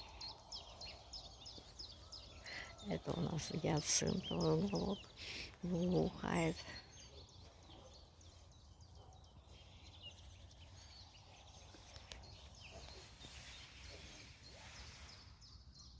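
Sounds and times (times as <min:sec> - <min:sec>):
distant birds chirping: 0:00.0 - 0:15.9
low rumble of wind: 0:00.0 - 0:15.9.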